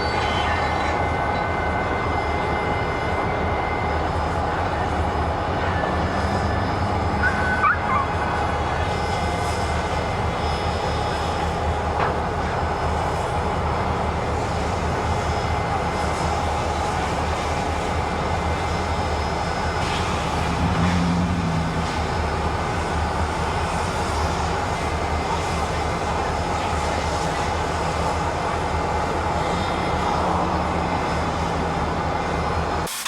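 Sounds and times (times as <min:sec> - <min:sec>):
steam locomotive rumble: 0:00.0 - 0:33.0.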